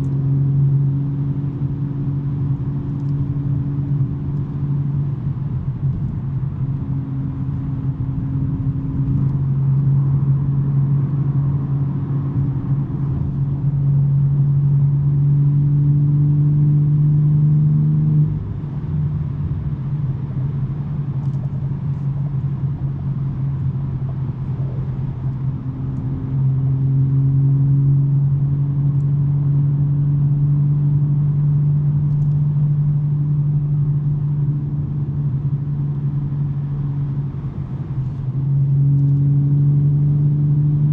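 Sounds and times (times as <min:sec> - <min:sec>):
car exhaust hum: 0:00.0 - 0:40.9.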